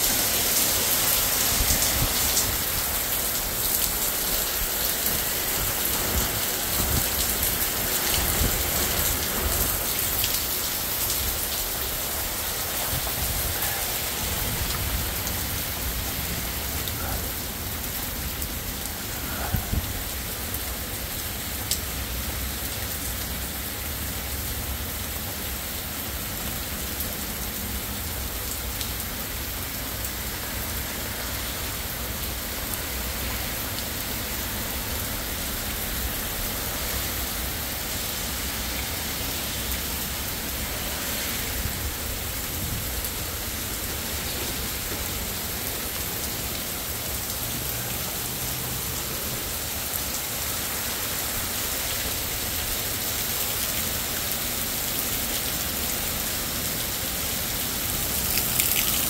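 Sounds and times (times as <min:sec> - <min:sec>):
heavy rain on gravel: 0:00.0 - 0:59.0.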